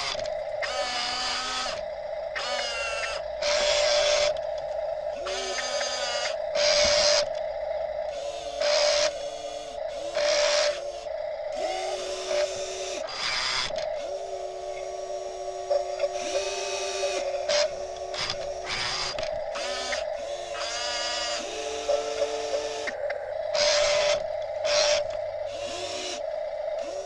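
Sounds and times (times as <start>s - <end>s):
steady hum: 0.0s - 27.0s
toy gear motors whining: 0.0s - 27.0s.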